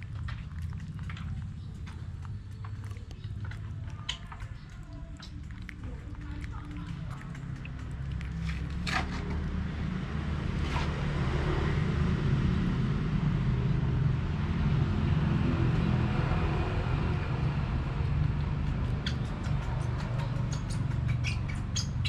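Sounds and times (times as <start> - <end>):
low motor rumble: 0.0 - 22.0.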